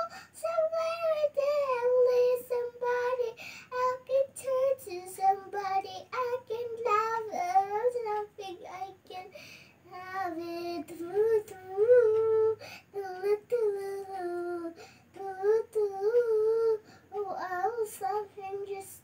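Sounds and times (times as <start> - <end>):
girl singing unaccompanied: 0.0 - 19.0.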